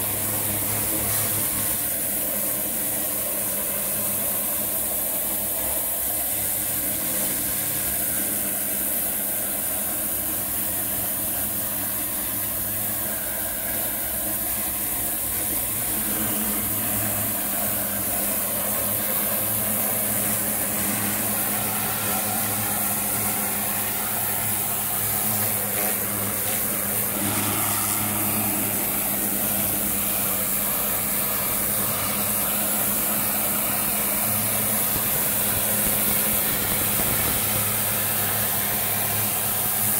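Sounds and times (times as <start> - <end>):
pressure washer motor hum: 0.0 - 39.9
water jet hissing on brick: 0.0 - 39.9.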